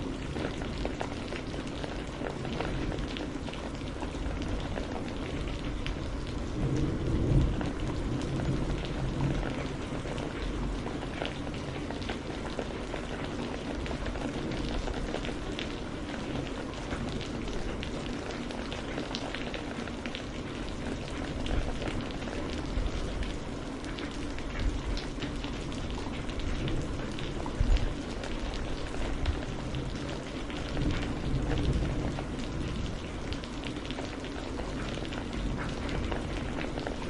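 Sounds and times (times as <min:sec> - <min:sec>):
low rain rumble: 0:00.0 - 0:37.0
rain drops pattering: 0:00.0 - 0:37.0.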